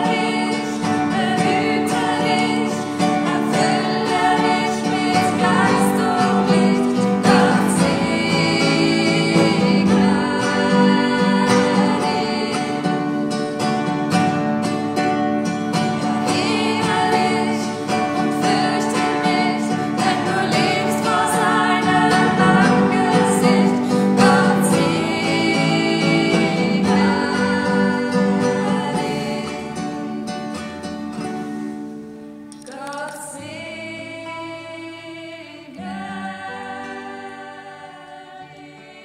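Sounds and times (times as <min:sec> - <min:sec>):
woman singing sacred song: 0:00.0 - 0:13.0, 0:16.2 - 0:30.0, 0:32.7 - 0:39.0
classical guitar: 0:00.0 - 0:39.0.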